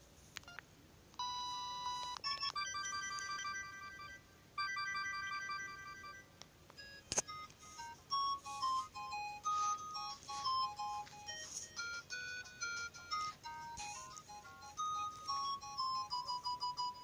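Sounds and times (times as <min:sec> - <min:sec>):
electronic phone ringtone: 0:01.2 - 0:17.0.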